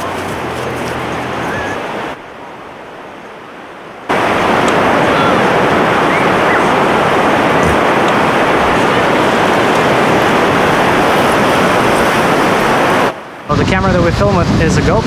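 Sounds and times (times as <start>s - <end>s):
ocean surf: 0.0s - 15.0s
wind on microphone: 0.0s - 15.0s.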